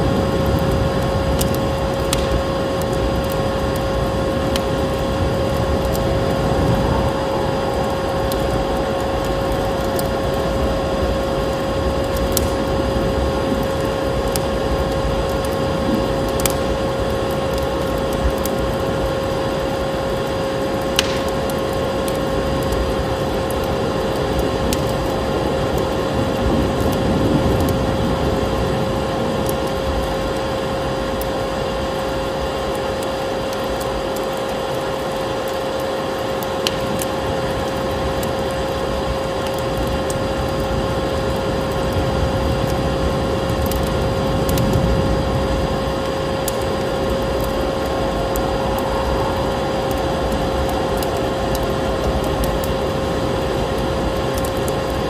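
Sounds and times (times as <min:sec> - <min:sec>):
vacuum cleaner drone: 0:00.0 - 0:55.0
wood fire crackling: 0:00.0 - 0:55.0.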